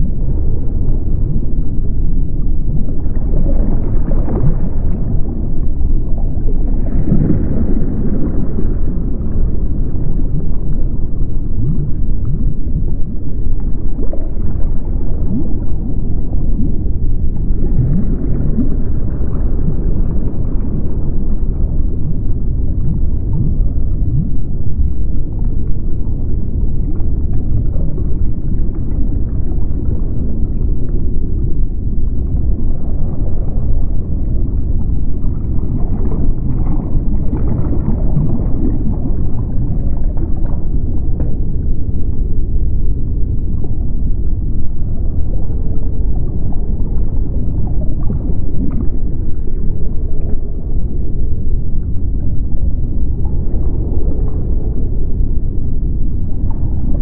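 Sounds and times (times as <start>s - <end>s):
low underwater rumble: 0.0s - 57.0s
muffled gurgling: 0.0s - 57.0s.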